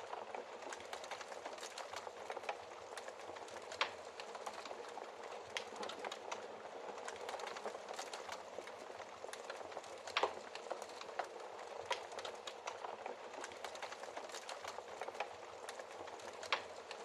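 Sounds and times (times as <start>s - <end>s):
wood fire crackling: 0.0s - 17.0s
fire popping: 0.1s - 17.0s.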